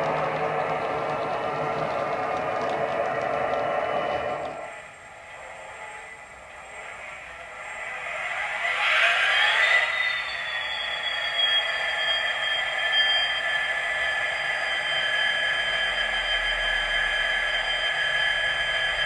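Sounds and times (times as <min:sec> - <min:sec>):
high-pitched locomotive whine: 0:00.0 - 0:19.0.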